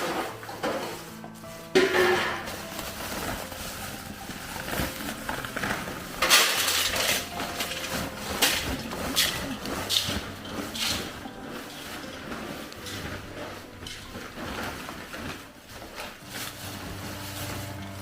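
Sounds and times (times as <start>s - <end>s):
pot clattering and scraping: 0.0s - 18.0s.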